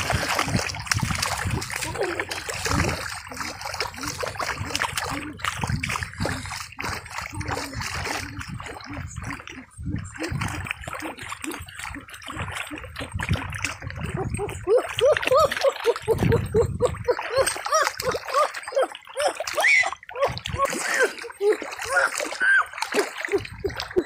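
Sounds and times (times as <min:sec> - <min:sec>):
fish thrashing in water: 0:00.0 - 0:24.0.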